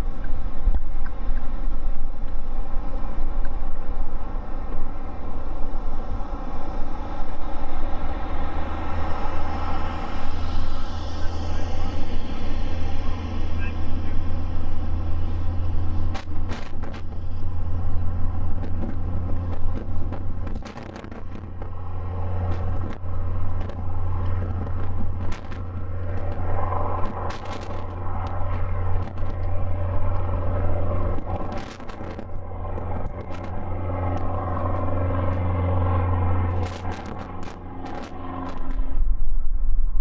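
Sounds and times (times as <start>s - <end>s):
jet engines droning: 0.0s - 40.0s
crackles: 6.9s - 40.0s.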